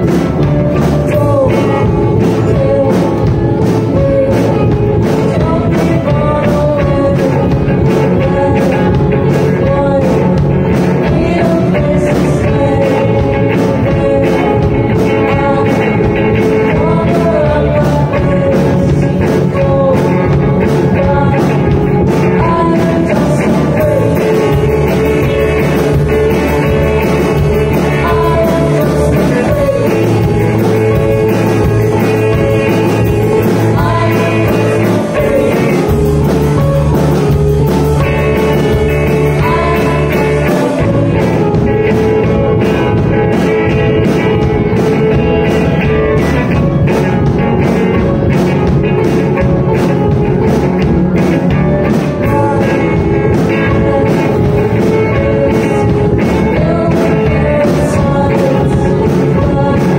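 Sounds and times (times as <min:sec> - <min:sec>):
people singing: 0:00.0 - 0:46.6, 0:51.9 - 0:59.9
live rock band: 0:00.0 - 0:59.9.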